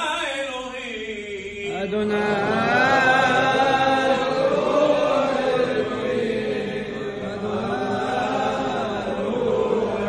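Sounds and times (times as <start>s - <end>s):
slow prayer chant: 0.0s - 10.0s.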